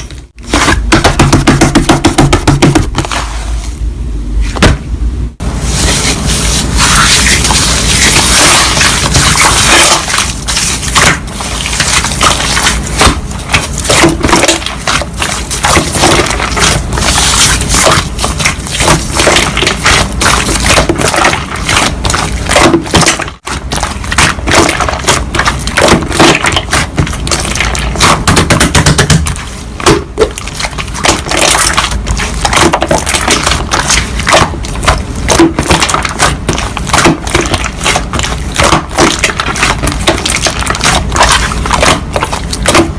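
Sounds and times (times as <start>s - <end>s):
slime squished by hand: 6.0s - 42.9s.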